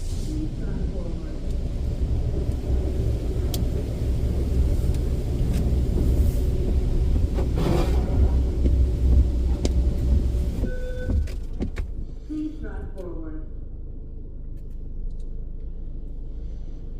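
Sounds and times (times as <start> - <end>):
car engine and tyres rumbling: 0.0 - 16.9.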